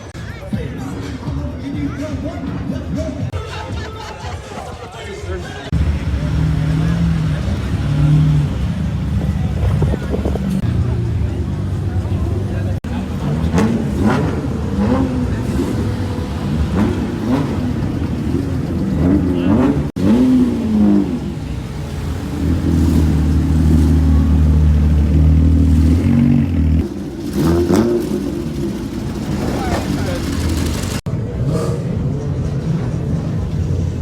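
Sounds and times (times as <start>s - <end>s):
car engine revving: 5.7s - 34.0s.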